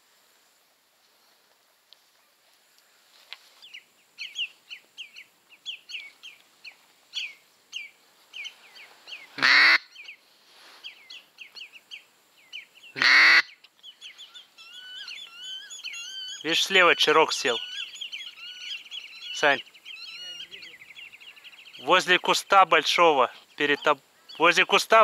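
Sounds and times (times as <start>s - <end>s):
birds chirping: 2.1s - 25.0s.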